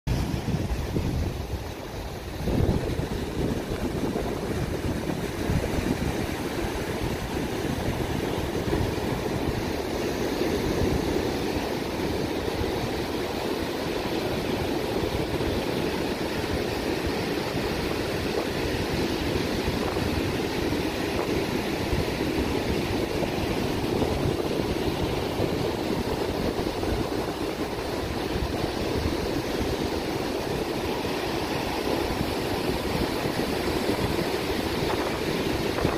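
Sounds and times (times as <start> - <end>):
motorboat engine running: 0.1 - 35.9
water rushing along hull: 0.1 - 35.9.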